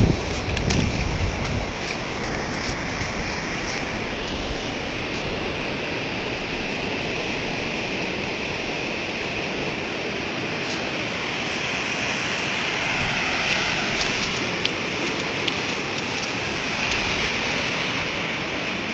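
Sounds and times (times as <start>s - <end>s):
floodwater roaring: 0.0s - 18.9s.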